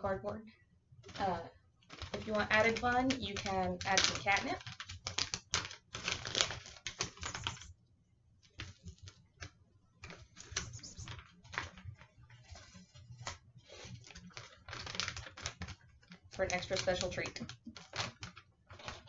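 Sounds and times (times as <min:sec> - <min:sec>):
rustling and crackling: 0:01.0 - 0:07.7, 0:08.4 - 0:19.0.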